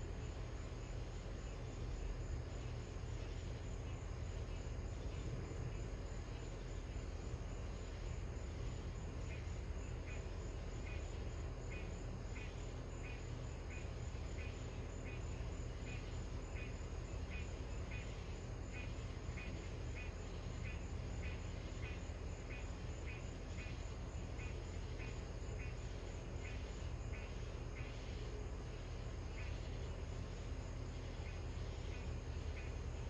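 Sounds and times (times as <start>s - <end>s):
night insect chirping: 0.0s - 33.0s.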